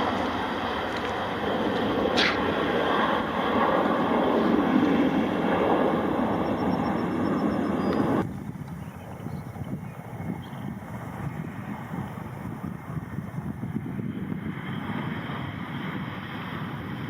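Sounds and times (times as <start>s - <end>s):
aircraft engines roaring: 0.0s - 17.0s.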